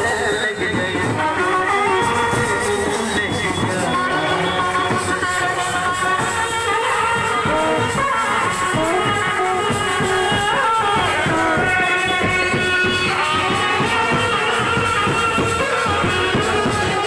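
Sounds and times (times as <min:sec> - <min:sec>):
drums and shakers beat: 0:00.0 - 0:17.0
brass band playing: 0:01.0 - 0:17.0.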